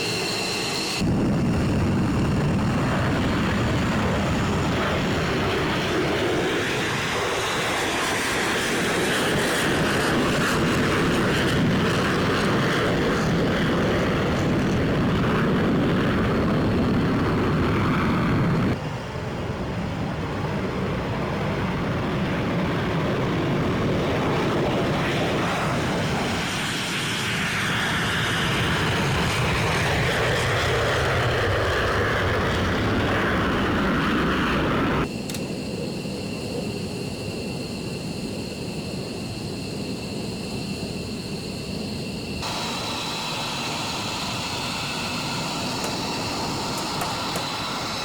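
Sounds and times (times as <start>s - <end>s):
fighter jet engines running: 0.0s - 48.0s
jet aircraft passing: 0.0s - 48.0s.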